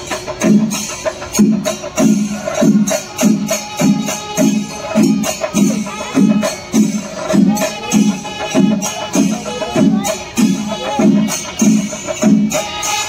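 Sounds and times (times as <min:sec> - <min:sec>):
drums: 0:00.0 - 0:13.0
small cymbals: 0:00.0 - 0:13.0.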